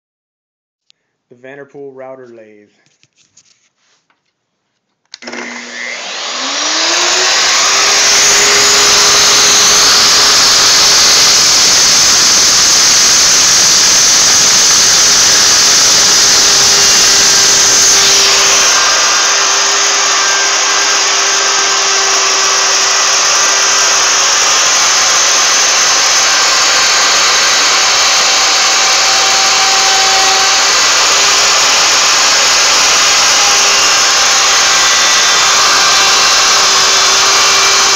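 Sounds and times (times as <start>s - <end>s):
router motor whining: 5.1s - 37.9s
router bit cutting wood: 5.2s - 37.9s.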